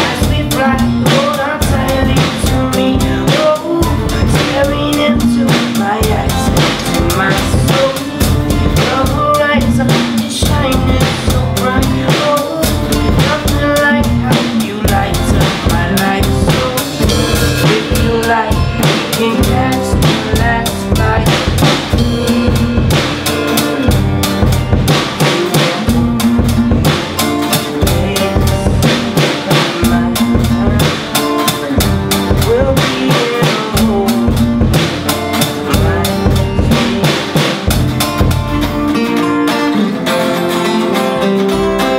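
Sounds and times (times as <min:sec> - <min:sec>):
drums keeping a steady beat: 0:00.0 - 0:41.9
live band playing: 0:00.0 - 0:41.9.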